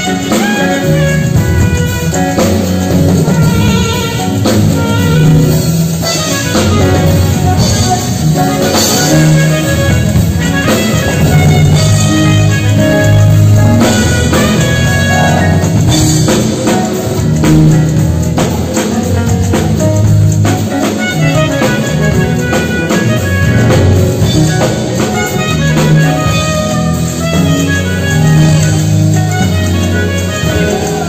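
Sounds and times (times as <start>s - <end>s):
band playing music: 0.0s - 31.0s
drum kit steady beat: 0.0s - 31.0s
saxophone: 0.0s - 31.0s.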